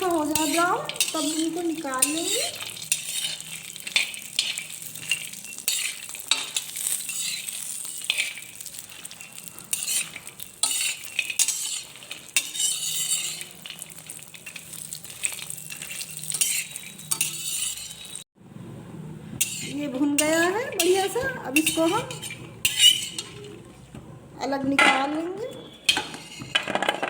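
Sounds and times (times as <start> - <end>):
spoon scraping and clinking pan: 0.0 - 18.2, 19.4 - 23.9, 24.8 - 27.0
nuts sizzling in hot fat: 0.0 - 18.3, 19.4 - 23.9.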